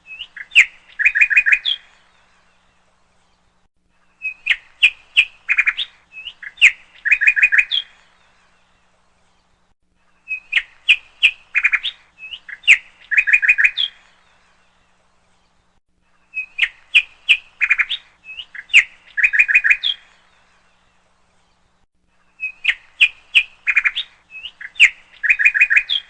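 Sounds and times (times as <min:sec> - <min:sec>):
songbird chirping and whistling: 0:00.0 - 0:02.5, 0:03.2 - 0:08.6, 0:10.1 - 0:15.6, 0:16.2 - 0:20.8, 0:21.4 - 0:26.0.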